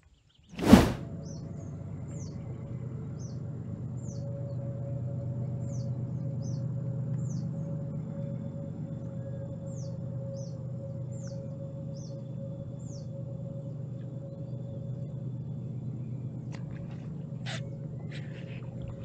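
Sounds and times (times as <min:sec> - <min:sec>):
steady low hum: 0:00.6 - 0:19.0.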